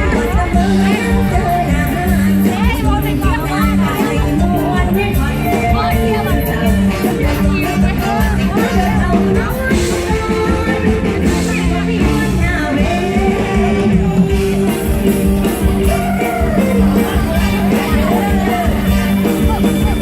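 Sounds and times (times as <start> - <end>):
live band music: 0.0 - 20.0
person singing: 0.0 - 20.0.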